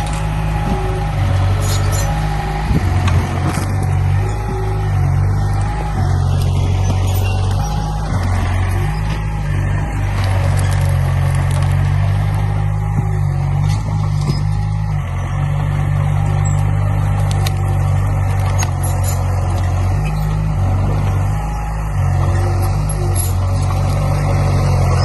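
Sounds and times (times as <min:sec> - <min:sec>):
deep diesel engine drone: 0:00.0 - 0:25.0.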